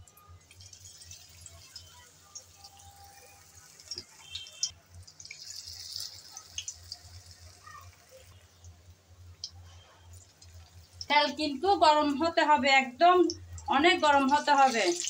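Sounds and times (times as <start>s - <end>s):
oil crackling and popping: 0.0s - 11.6s, 13.2s - 15.0s
patties sizzling in hot oil: 0.0s - 15.0s.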